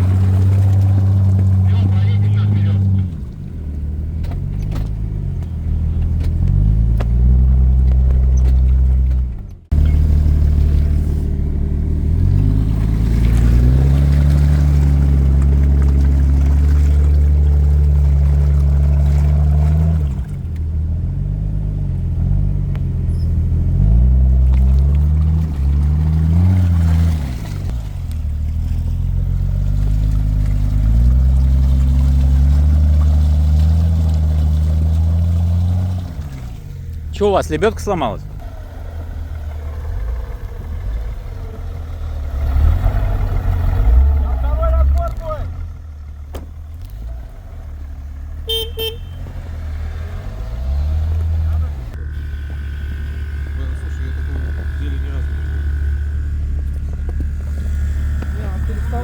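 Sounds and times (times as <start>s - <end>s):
engine revving under load: 0.0s - 59.0s.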